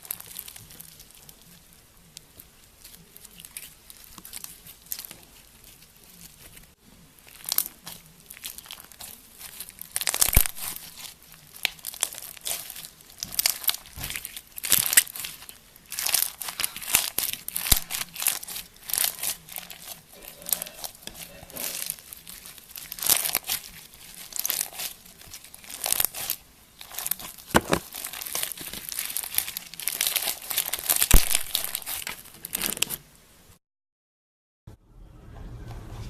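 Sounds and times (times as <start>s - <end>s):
slime crackling and popping: 0.0s - 33.1s.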